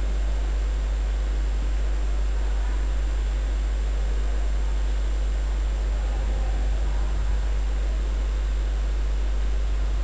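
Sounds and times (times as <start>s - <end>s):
faint high whine: 0.0s - 10.0s
low hum with hiss: 0.0s - 10.0s.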